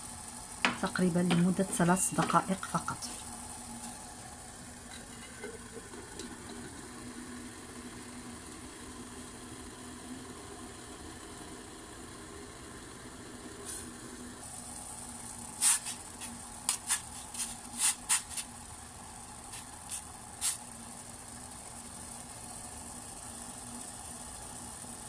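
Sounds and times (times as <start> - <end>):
water boiling in a pot: 0.0 - 25.0.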